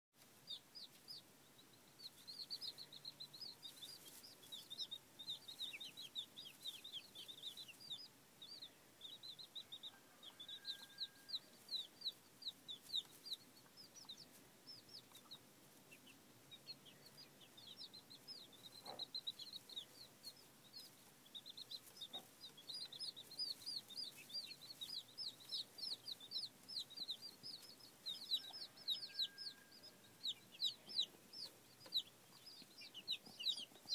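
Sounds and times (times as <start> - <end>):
chicks peeping: 0.2 - 33.9.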